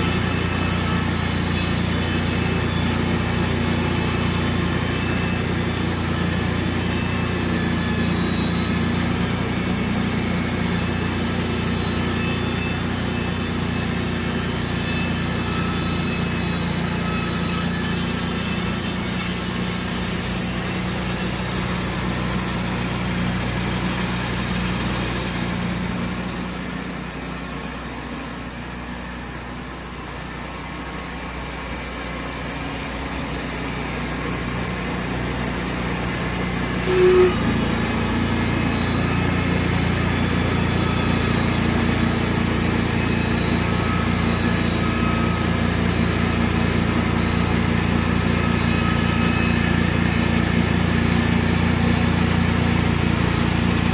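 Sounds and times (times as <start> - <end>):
brief loud tone: 0.0 - 53.9
sawmill engine running: 0.0 - 53.9.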